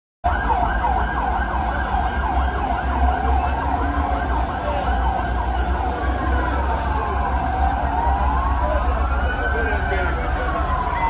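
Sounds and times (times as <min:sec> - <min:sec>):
sirens wailing: 0:00.2 - 0:11.0.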